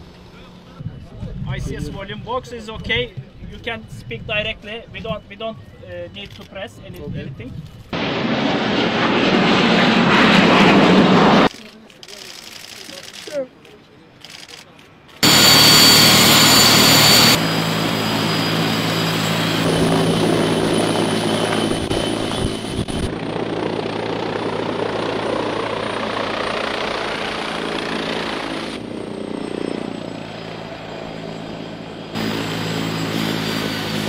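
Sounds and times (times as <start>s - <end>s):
helicopter engines and rotor: 0.0s - 13.4s, 14.2s - 34.0s.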